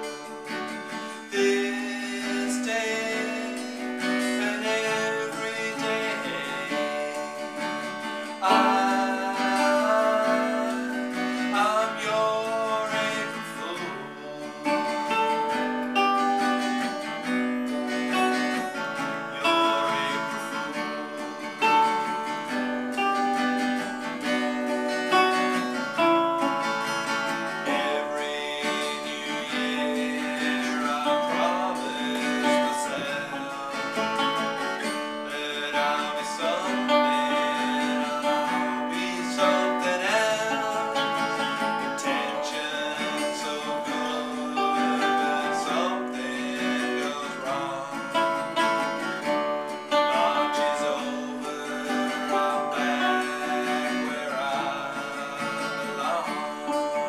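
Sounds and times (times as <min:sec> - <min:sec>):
acoustic guitar playing: 0:00.0 - 0:57.0
man singing: 0:00.0 - 0:57.0.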